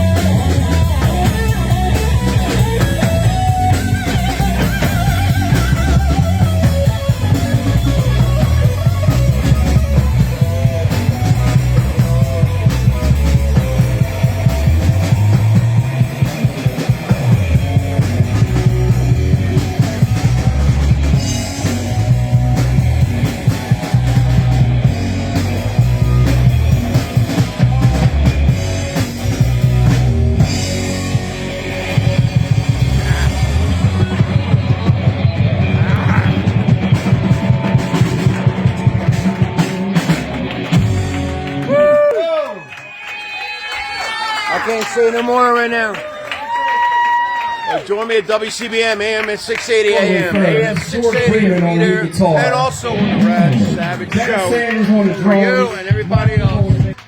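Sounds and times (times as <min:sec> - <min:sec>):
drum kit beat: 0:00.0 - 0:42.1, 0:49.9 - 0:57.0
bass guitar: 0:00.0 - 0:42.5, 0:49.9 - 0:57.0
electric guitar: 0:00.0 - 0:43.4, 0:50.3 - 0:57.0.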